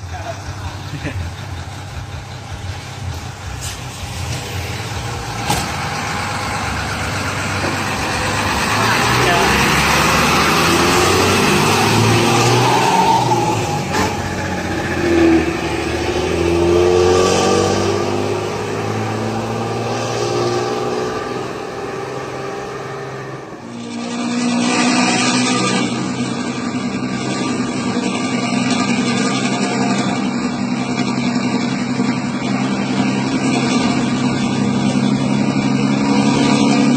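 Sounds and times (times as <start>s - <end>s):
bus diesel engine revving: 0.0s - 36.9s.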